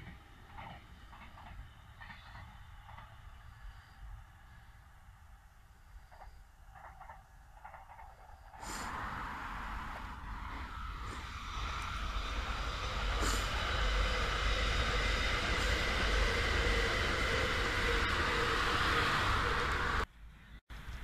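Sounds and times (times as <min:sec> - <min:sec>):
train wheels rushing on rails: 0:00.0 - 0:20.1.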